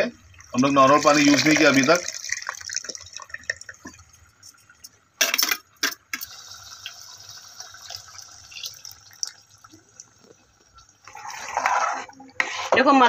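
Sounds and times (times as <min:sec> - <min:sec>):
liquid pouring into a pot: 0:00.1 - 0:12.3.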